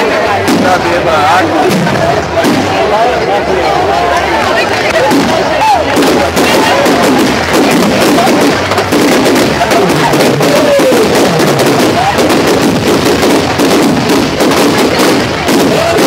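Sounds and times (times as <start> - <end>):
crowd voices: 0.0 - 16.0
fireworks crackling and popping: 0.0 - 16.0.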